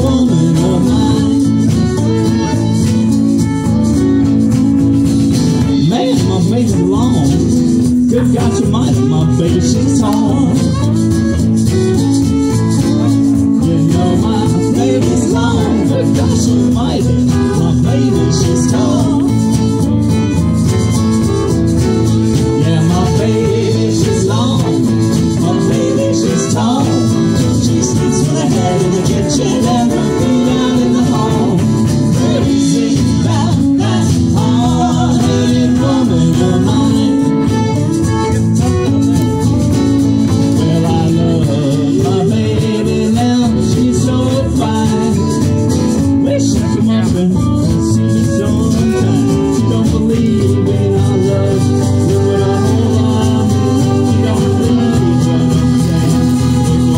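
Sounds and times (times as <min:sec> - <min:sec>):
acoustic guitars and upright bass: 0:00.0 - 0:56.9
live band playing: 0:00.0 - 0:56.9
person singing: 0:00.0 - 0:56.9.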